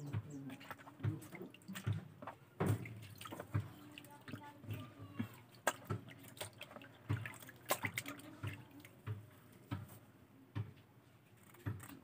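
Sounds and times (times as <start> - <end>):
water dripping and splashing: 0.0 - 9.9.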